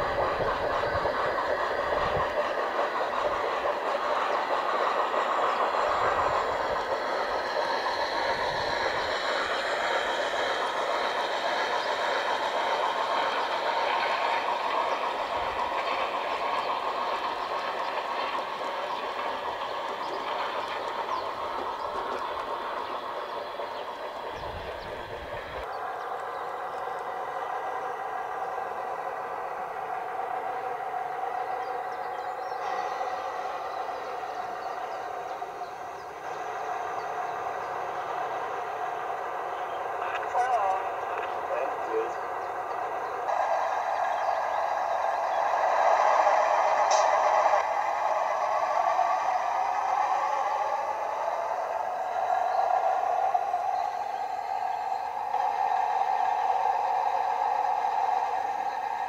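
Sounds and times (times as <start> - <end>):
model train wheels clattering: 0.0 - 47.7.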